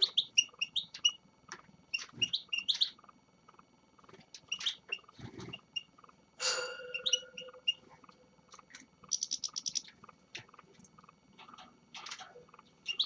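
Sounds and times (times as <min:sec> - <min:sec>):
finches chirping: 0:00.0 - 0:13.0.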